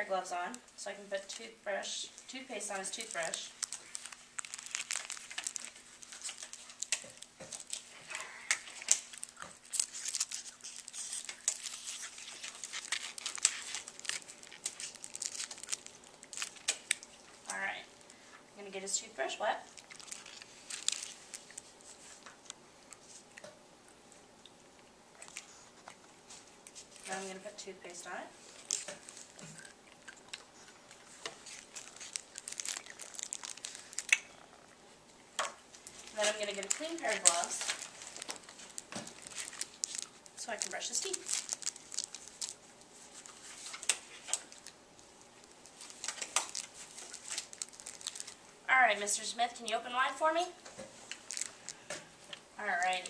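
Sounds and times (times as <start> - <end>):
gloves crinkling and rustling: 0.0 - 53.0.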